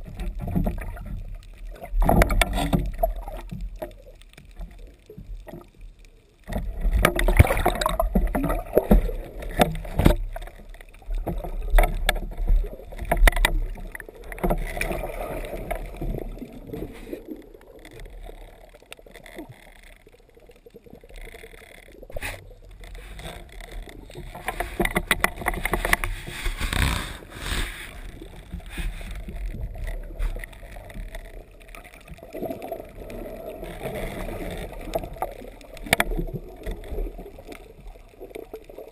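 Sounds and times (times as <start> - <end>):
muffled underwater rumble: 0.0 - 38.9
water sloshing and gurgling: 0.0 - 38.9.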